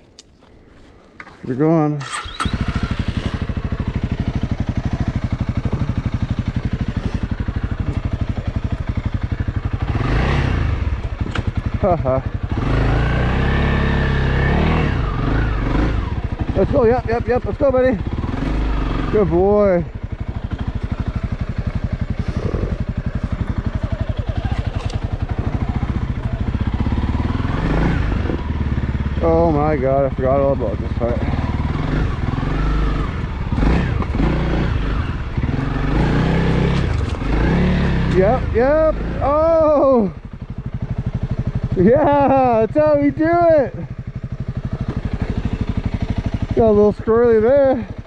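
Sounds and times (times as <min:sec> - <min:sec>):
motorcycle engine starting and idling: 0:00.1 - 0:48.0.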